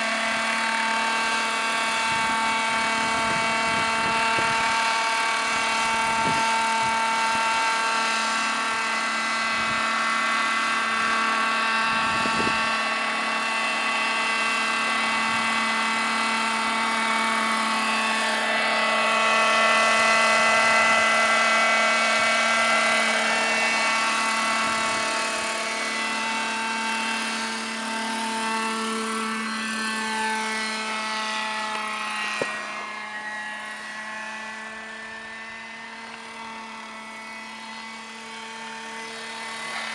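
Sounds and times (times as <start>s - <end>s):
model helicopter engine and rotors: 0.0s - 39.9s.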